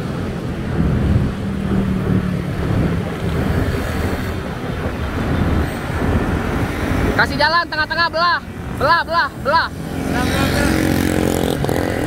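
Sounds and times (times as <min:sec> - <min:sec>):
bicycle road noise: 0:00.0 - 0:12.0
motor vehicle engine humming: 0:00.0 - 0:12.0
wind rushing over microphone: 0:00.0 - 0:12.0.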